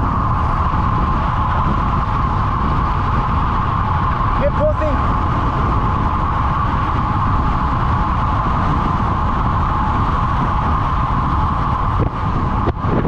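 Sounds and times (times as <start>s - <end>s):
bike tyres rolling on road: 0.0s - 13.0s
constant hum: 0.0s - 13.0s
wind rushing: 0.0s - 13.0s.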